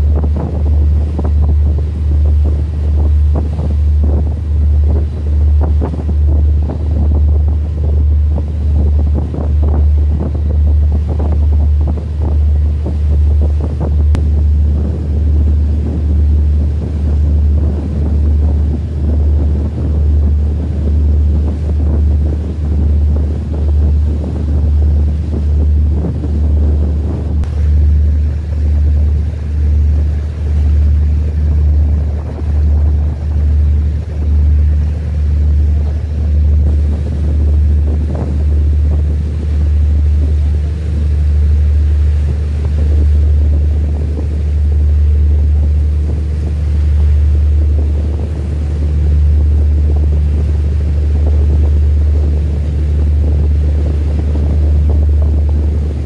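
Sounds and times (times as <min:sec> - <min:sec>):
boat engine rumbling: 0:00.0 - 0:56.0
wind buffeting microphone: 0:00.0 - 0:56.0.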